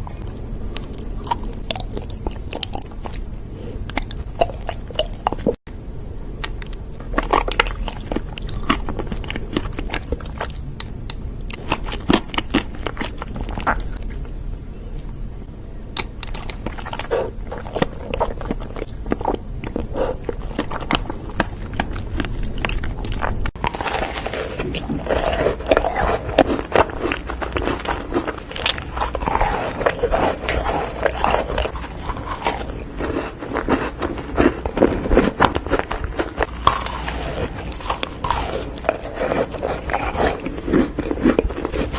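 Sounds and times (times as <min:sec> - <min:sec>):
person chewing crunchy food: 0:00.0 - 0:05.6, 0:06.3 - 0:14.4, 0:16.0 - 0:41.9.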